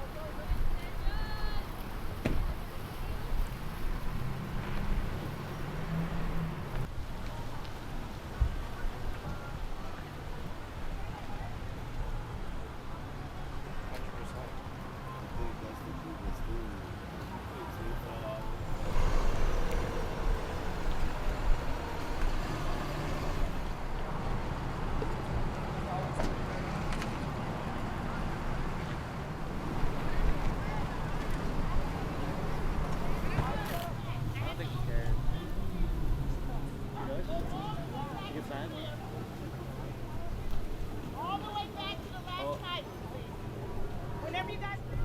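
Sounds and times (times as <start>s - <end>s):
engine rumble: 0.0s - 42.0s.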